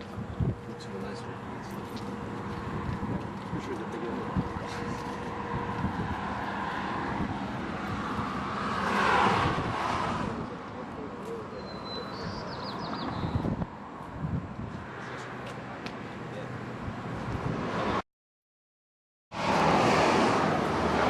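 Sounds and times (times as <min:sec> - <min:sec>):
traffic noise: 0:00.0 - 0:18.0, 0:19.3 - 0:21.0
vehicle passing: 0:00.4 - 0:15.8, 0:19.4 - 0:21.0.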